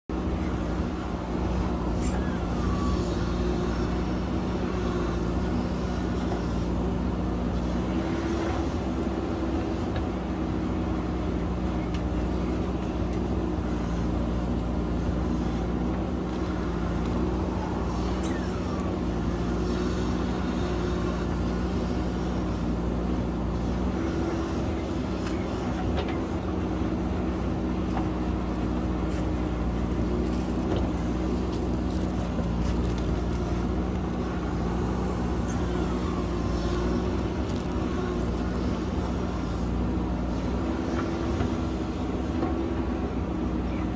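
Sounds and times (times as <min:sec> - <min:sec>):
diesel engine running under load: 0:00.1 - 0:43.9.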